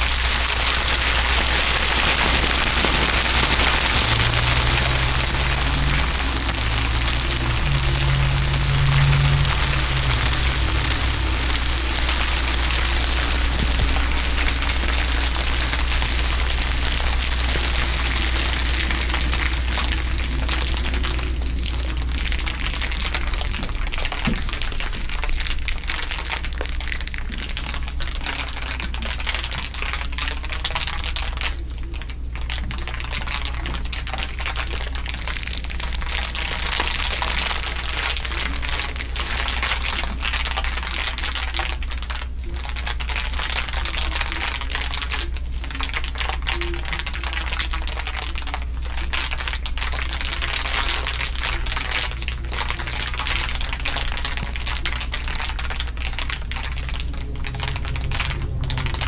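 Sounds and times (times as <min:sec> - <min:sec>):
steady low hum: 0:00.0 - 0:29.2, 0:34.5 - 0:59.0
dense crackle of crinkling: 0:00.0 - 0:59.0.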